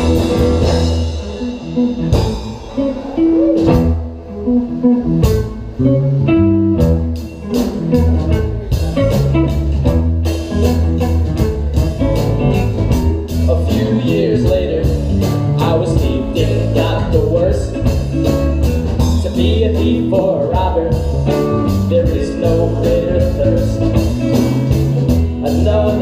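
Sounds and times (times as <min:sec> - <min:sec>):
bass: 0:00.0 - 0:26.0
drum kit and cymbals: 0:00.0 - 0:26.0
guitar: 0:00.0 - 0:26.0.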